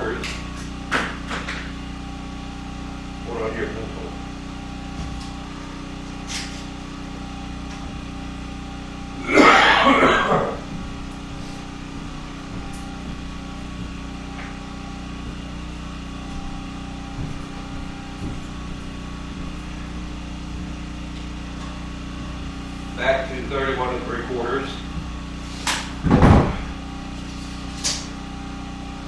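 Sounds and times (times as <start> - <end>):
generator humming: 0.0 - 29.0.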